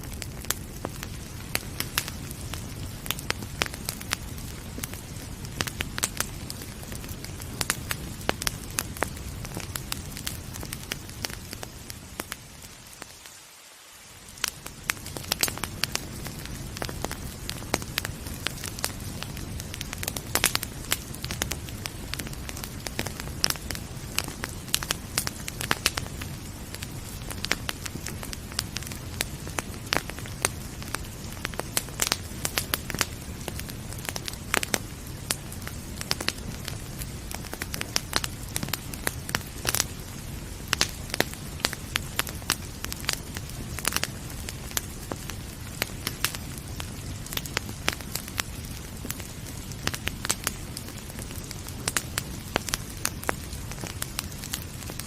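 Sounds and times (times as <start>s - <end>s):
wood fire crackling and popping: 0.0s - 13.4s, 14.0s - 55.0s.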